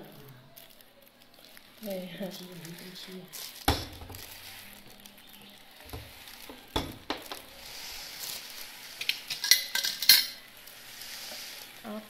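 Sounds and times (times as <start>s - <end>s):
low room noise: 0.0s - 12.0s
plastic bag handling: 0.0s - 12.0s.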